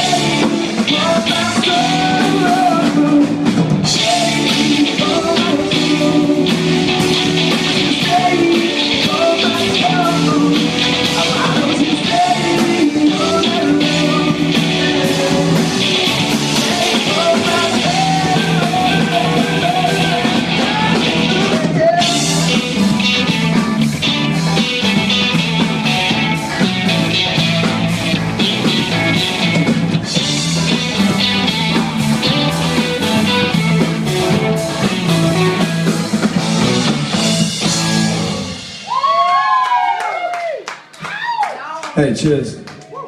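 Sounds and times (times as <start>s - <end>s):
live rock band playing: 0.0s - 39.6s.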